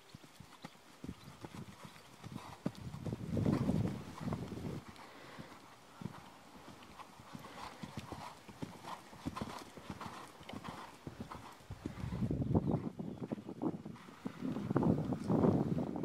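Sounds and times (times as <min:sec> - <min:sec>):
horse hooves trotting on sand: 0:00.0 - 0:16.0.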